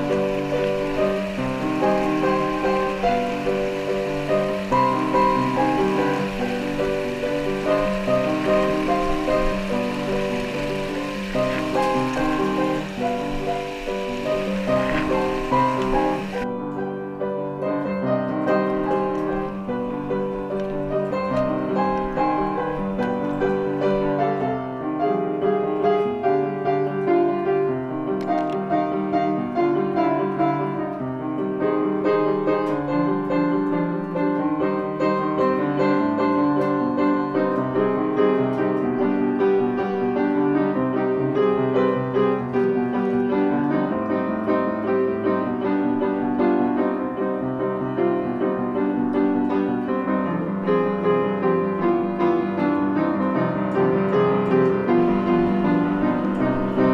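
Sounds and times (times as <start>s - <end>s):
piano melody with chords: 0.0s - 56.9s.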